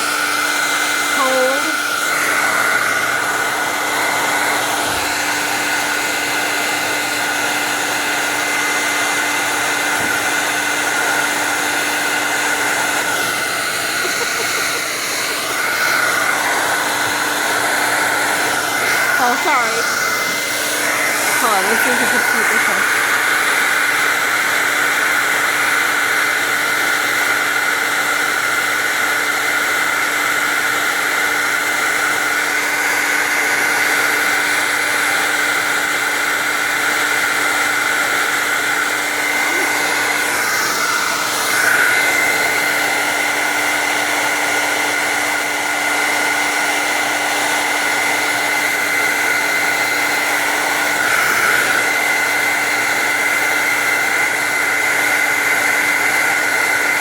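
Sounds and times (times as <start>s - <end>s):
blow dryer running: 0.0s - 57.0s.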